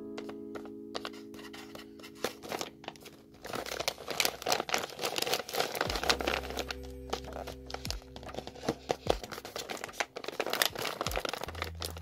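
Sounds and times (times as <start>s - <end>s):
faint background music: 0.0s - 12.0s
paper bag crinkling: 0.0s - 12.0s.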